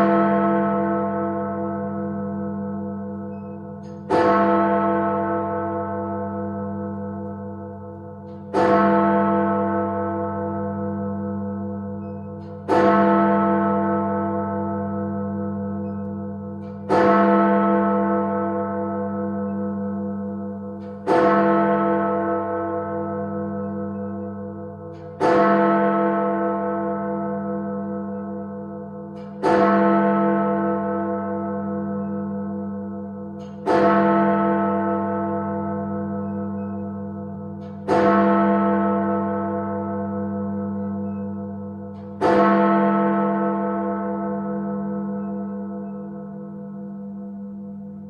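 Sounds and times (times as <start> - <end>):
large bell striking: 0.0 - 48.0.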